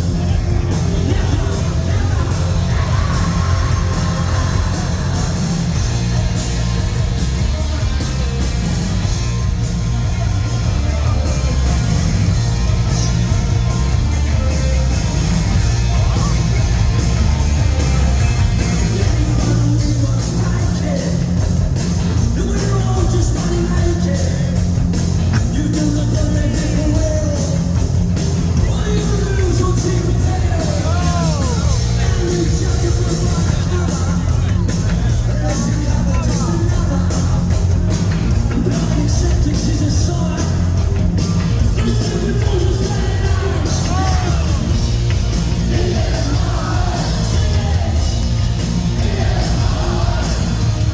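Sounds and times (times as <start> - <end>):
bass: 0.0 - 50.9
drums: 0.0 - 50.9
electric guitars: 0.0 - 50.9.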